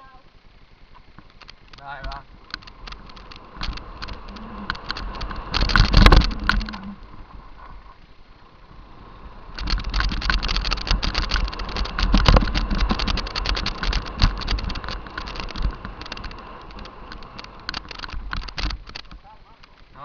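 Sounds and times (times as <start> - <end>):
bike rattling over stones: 0.5 - 8.4, 9.3 - 20.0
low rumble: 2.1 - 18.5.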